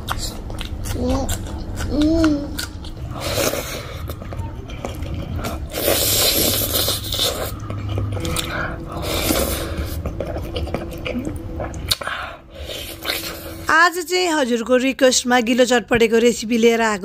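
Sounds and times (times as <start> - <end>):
person chewing wetly: 0.0 - 13.7.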